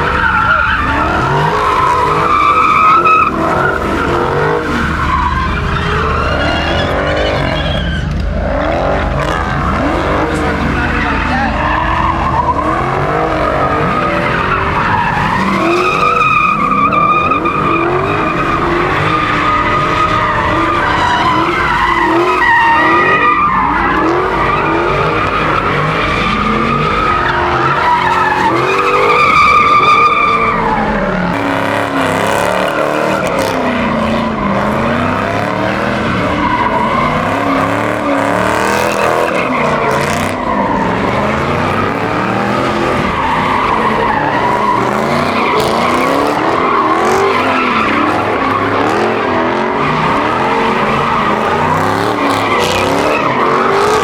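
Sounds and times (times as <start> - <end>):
car engine revving: 0.0 - 54.0
car tyres squealing: 0.0 - 54.0.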